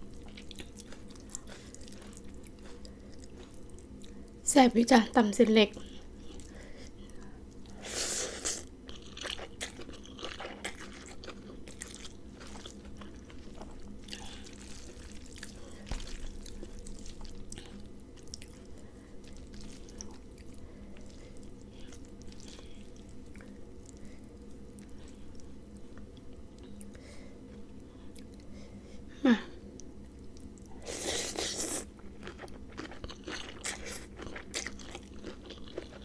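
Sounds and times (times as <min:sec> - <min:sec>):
person chewing and crunching food: 0:00.0 - 0:04.4, 0:05.7 - 0:28.5, 0:29.7 - 0:36.0
faint steady hum: 0:00.0 - 0:36.0.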